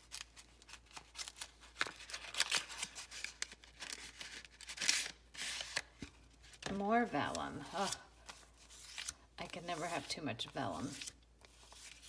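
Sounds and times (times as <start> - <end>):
crinkly packaging rustles: 0.0 - 12.0.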